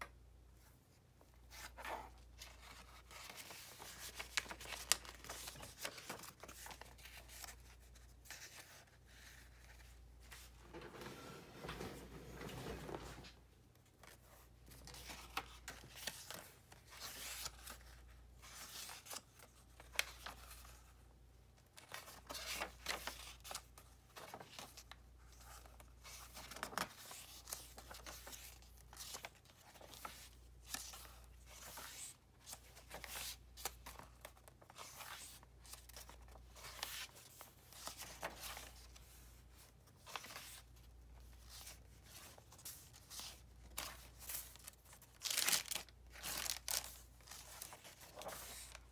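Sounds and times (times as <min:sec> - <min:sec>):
paper pages rustling: 0:01.4 - 0:20.9, 0:21.8 - 0:48.9.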